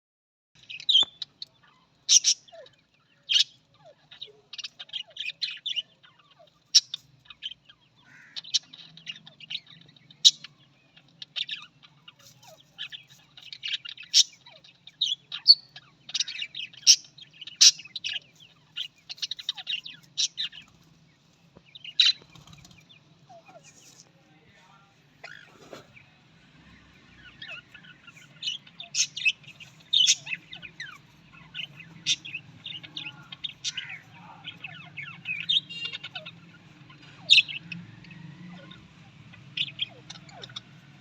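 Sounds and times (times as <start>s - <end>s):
birds chirping and chattering: 0.6s - 41.0s.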